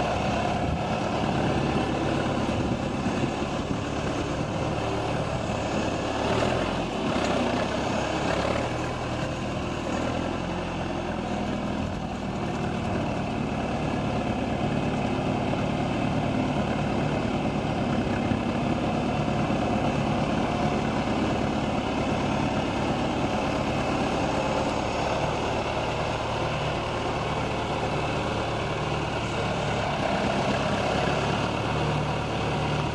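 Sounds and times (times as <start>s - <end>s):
backhoe engine idling: 0.0s - 32.9s.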